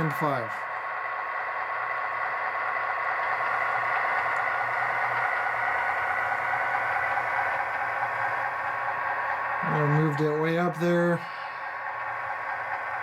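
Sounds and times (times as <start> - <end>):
model locomotive diesel engine sound: 0.0 - 13.0.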